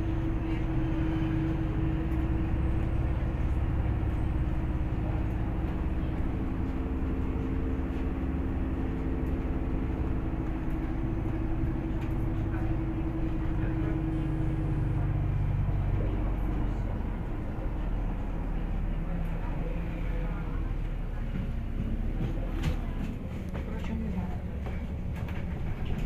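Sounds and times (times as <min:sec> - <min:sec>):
bus drivetrain rumble: 0:00.0 - 0:26.0
constant whine: 0:00.0 - 0:26.0.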